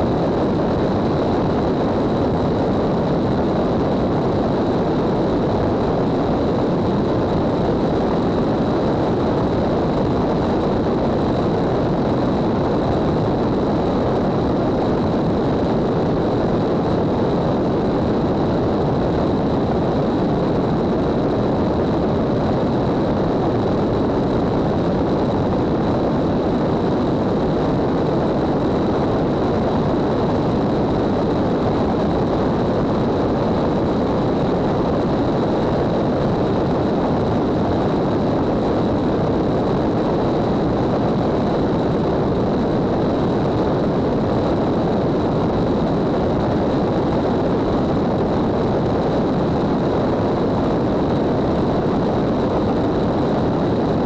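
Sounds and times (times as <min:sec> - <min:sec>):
aircraft engine propeller drone: 0:00.0 - 0:54.0
wind rush: 0:00.0 - 0:54.0.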